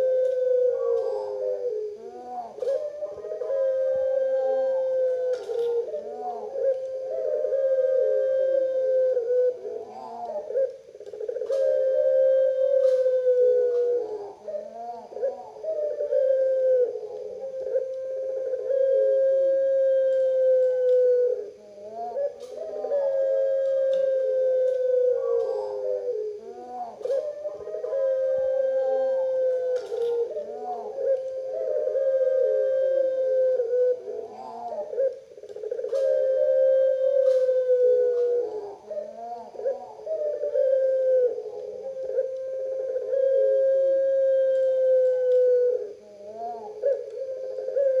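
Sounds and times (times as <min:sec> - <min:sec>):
dove long coos: 0:00.0 - 0:48.0
dove short cooing notes: 0:00.0 - 0:48.0.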